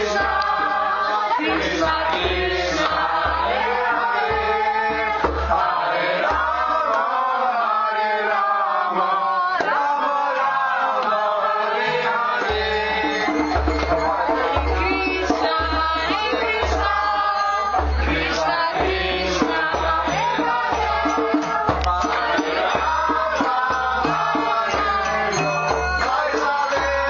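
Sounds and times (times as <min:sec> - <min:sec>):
instrumental accompaniment: 0:00.0 - 0:07.3, 0:11.2 - 0:27.0
devotional chanting: 0:00.0 - 0:27.0.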